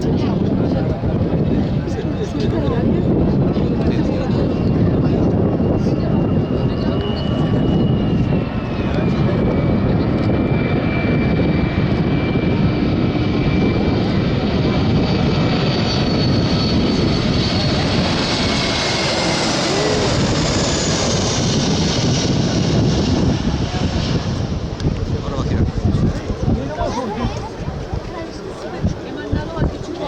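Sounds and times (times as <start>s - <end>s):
jet airliner passing overhead: 0.0s - 30.0s.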